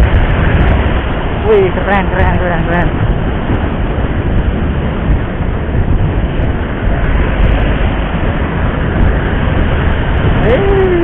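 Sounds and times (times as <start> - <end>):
motorcycle rumble and road noise: 0.0 - 11.0.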